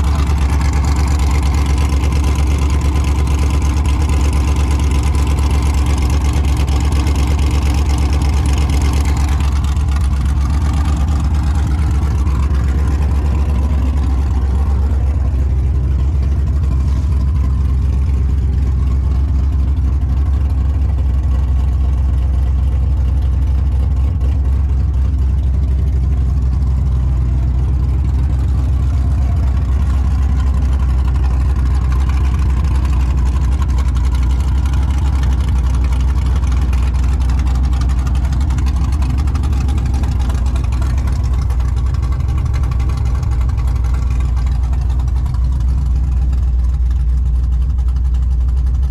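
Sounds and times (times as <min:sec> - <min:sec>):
loud engine idling: 0:00.0 - 0:48.9.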